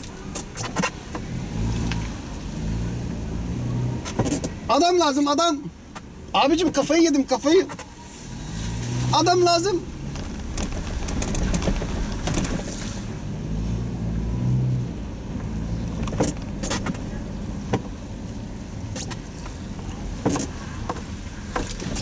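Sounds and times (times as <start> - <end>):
car engine: 0.0 - 22.0
road noise: 0.0 - 22.0.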